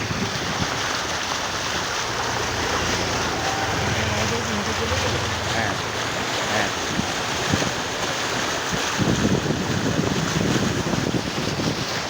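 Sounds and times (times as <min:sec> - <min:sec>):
heavy rain and floodwater rushing: 0:00.0 - 0:12.0
wind noise on microphone: 0:00.0 - 0:12.0.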